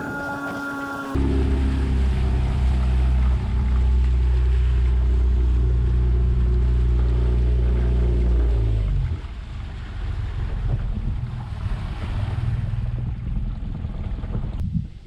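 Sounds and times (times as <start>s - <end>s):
boat motor running: 0.0s - 14.6s.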